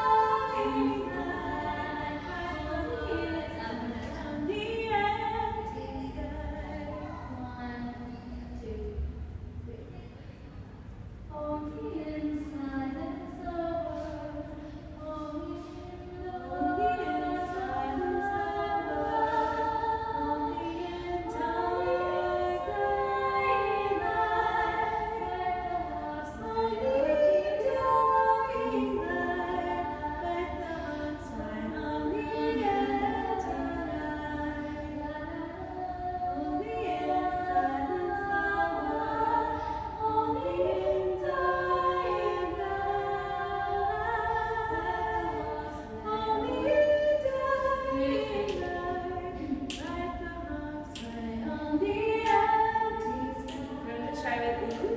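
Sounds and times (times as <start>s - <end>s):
voices singing unaccompanied: 0.0s - 8.8s, 11.3s - 54.9s.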